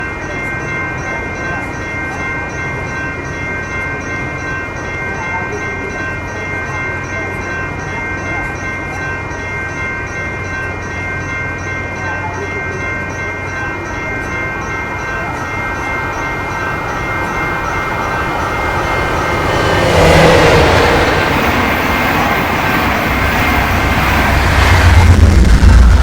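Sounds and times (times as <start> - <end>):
passenger train passing: 0.0 - 26.0
regular ringing: 0.3 - 24.9.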